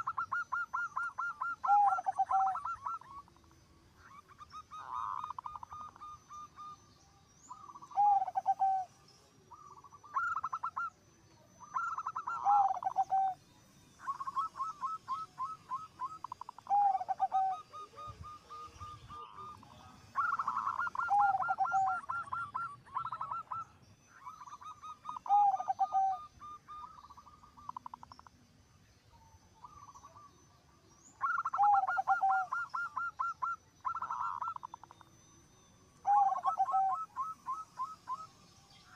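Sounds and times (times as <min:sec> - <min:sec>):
dove cooing: 0:00.0 - 0:06.8, 0:07.4 - 0:11.0, 0:11.6 - 0:13.4, 0:14.0 - 0:28.3, 0:29.6 - 0:30.4, 0:31.0 - 0:35.1, 0:36.0 - 0:38.9.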